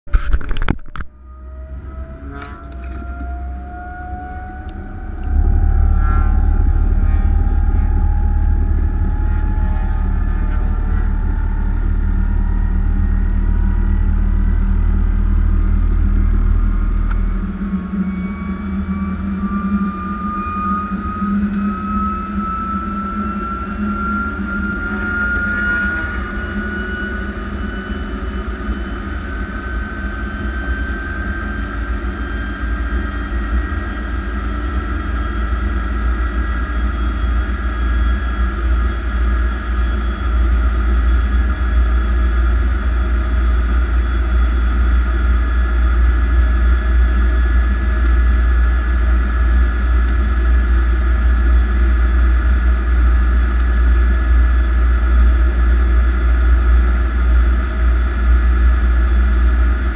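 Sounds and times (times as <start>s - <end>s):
jet engine low rumble: 0.1s - 59.9s
turbine whine rising in pitch: 0.1s - 59.9s.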